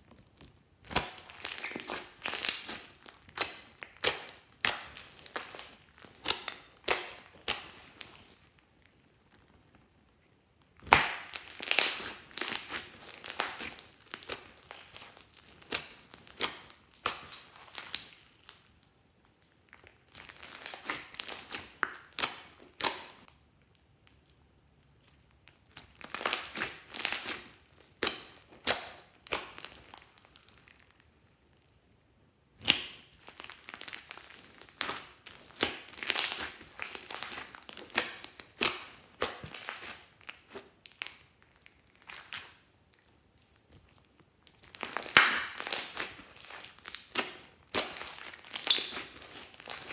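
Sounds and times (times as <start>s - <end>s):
slime squishing and popping: 0.0s - 9.8s, 10.6s - 23.3s, 24.0s - 31.0s, 32.6s - 49.9s.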